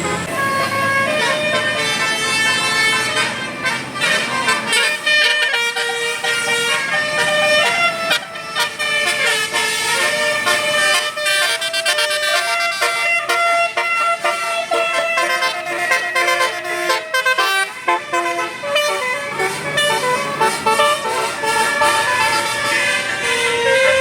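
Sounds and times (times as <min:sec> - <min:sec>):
bus musical horn playing a tune: 0:00.0 - 0:24.0.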